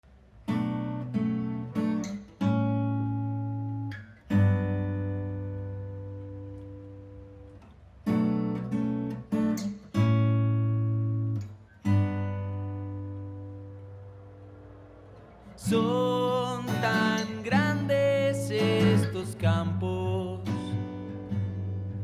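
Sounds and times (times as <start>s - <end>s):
acoustic guitar chords: 0.1s - 22.0s.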